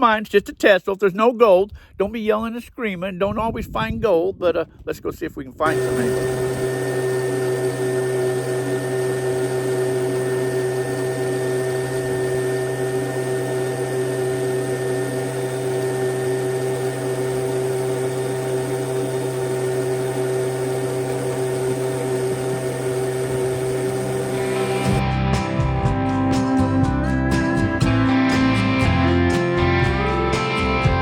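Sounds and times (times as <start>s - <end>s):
blower motor humming: 5.7s - 31.0s.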